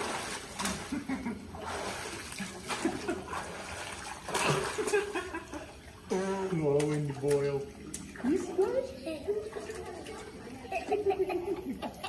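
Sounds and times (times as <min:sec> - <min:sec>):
water splashing in a pool: 0:00.0 - 0:12.0.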